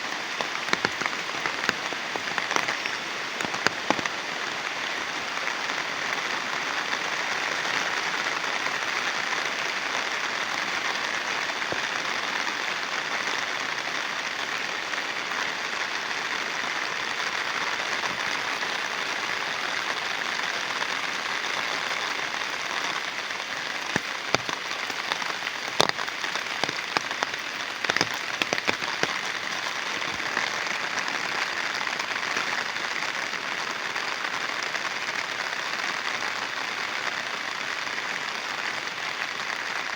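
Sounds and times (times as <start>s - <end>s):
sharp raindrop taps: 0.0s - 35.3s
heavy rain falling: 0.0s - 39.9s.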